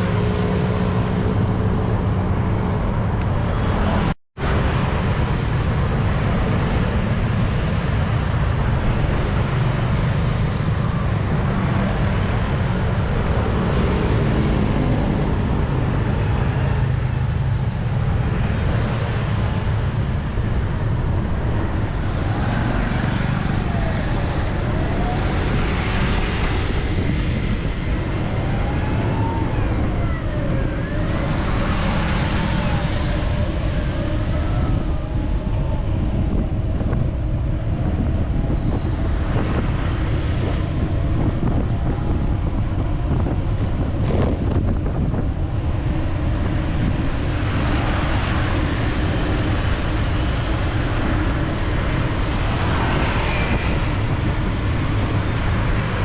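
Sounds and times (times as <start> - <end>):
road traffic noise: 0.0 - 56.0
wind buffeting microphone: 0.0 - 56.0.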